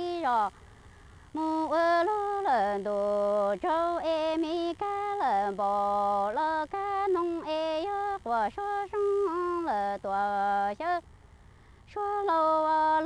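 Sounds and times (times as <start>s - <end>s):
woman singing unaccompanied: 0.0s - 0.7s, 1.3s - 11.1s, 11.9s - 13.0s.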